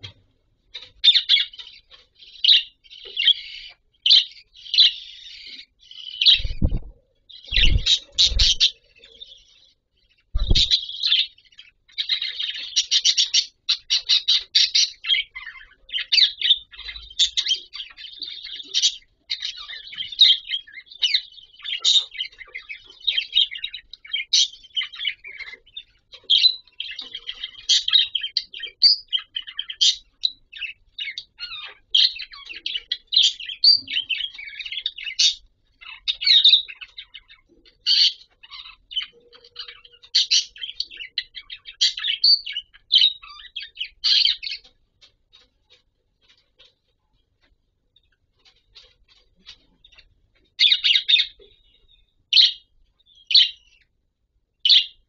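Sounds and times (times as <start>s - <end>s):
budgerigars warbling and chattering: 0.0s - 53.9s, 54.6s - 55.0s.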